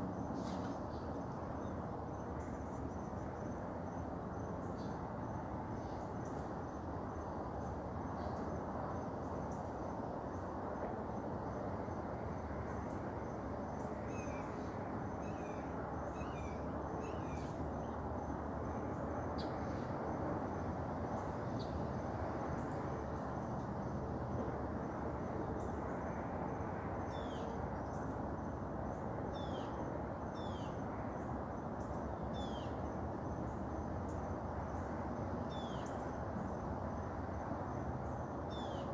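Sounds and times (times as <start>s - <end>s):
low rush of background noise: 0.0s - 38.9s.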